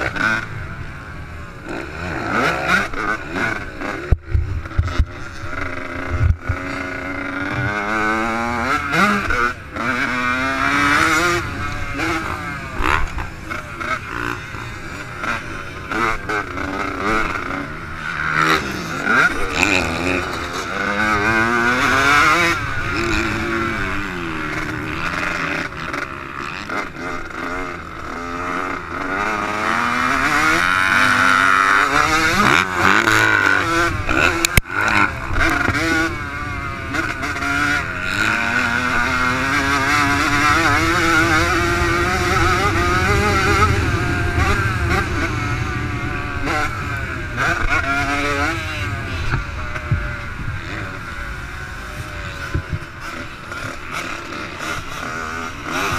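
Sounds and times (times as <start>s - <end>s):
dirt bike engine revving: 0.0s - 55.9s
other dirt bikes running: 0.0s - 55.9s.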